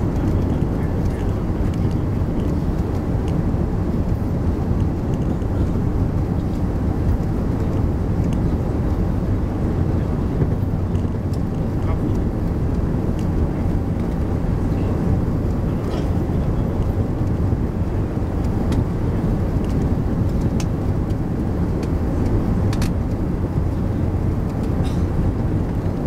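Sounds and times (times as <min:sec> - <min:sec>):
airliner cabin rumble: 0:00.0 - 0:26.0.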